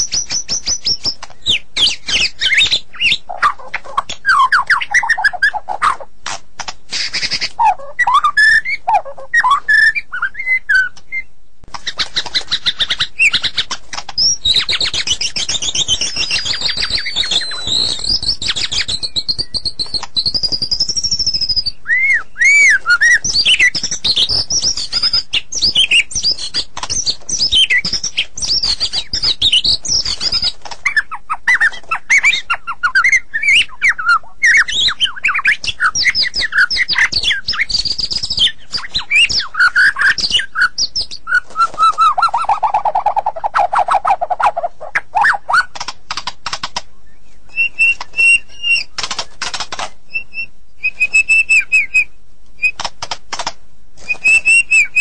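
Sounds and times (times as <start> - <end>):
songbird singing varied song: 0.0 - 6.1, 6.9 - 45.9, 46.6 - 52.9, 54.0 - 55.0.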